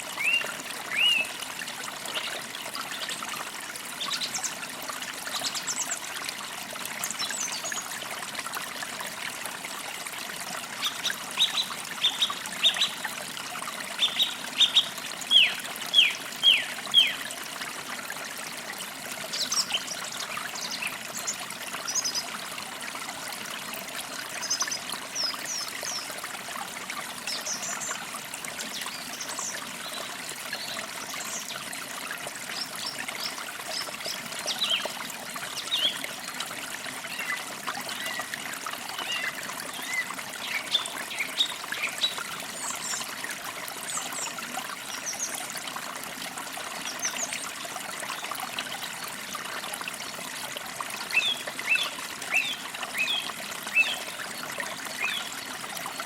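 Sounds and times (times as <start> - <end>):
creek water trickling over stones: 0.0 - 56.0.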